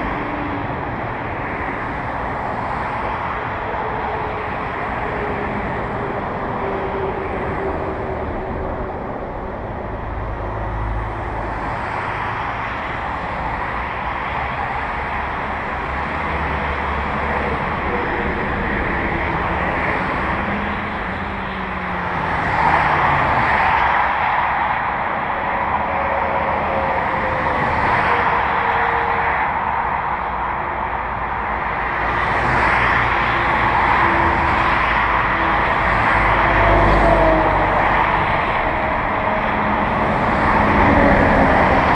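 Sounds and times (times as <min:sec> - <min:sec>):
road traffic noise: 0:00.0 - 0:41.9.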